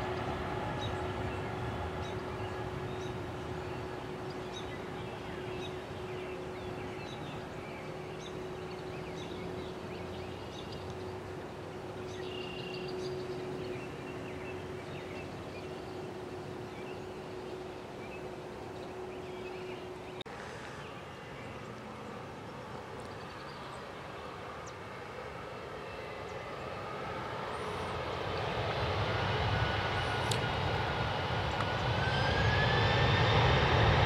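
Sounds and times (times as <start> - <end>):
constant low hum: 0.0 - 34.0
outdoor background noise: 0.0 - 34.0.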